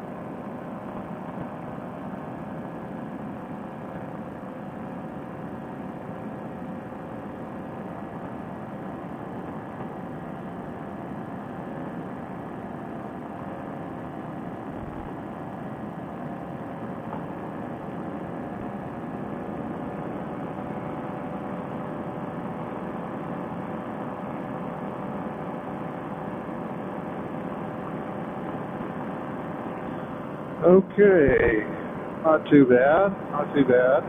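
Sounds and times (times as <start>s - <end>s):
paramotor engine droning: 0.0s - 34.0s.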